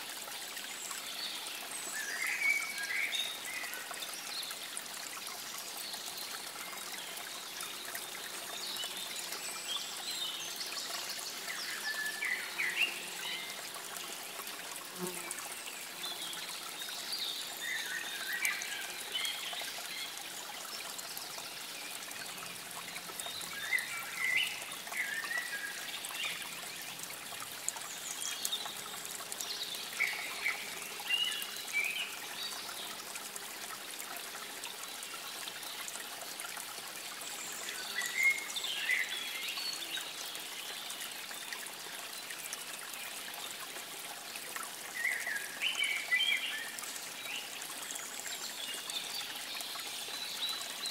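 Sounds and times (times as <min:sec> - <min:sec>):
water trickling: 0:00.0 - 0:50.9.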